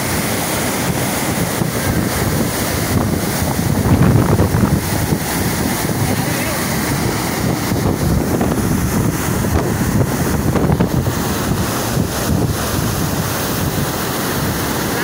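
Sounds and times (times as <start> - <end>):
water rushing through gates: 0.0 - 15.0
wind buffeting microphone: 0.2 - 14.7.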